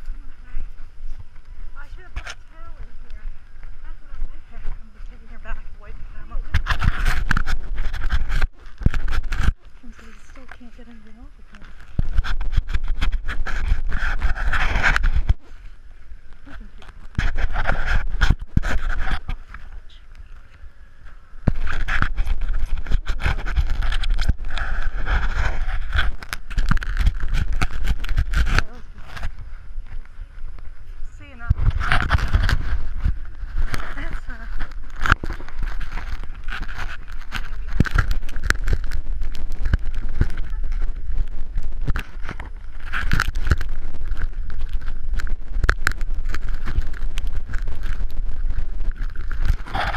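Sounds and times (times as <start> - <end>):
clothing rubbing on camera: 0.0 - 49.9
steady low rumble: 0.0 - 49.9.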